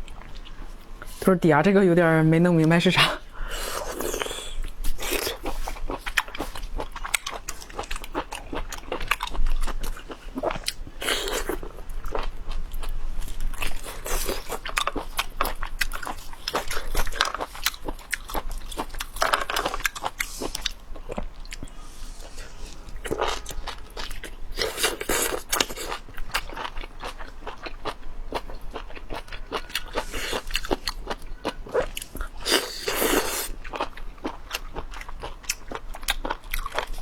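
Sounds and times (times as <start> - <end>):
chewing and biting: 3.8 - 37.0.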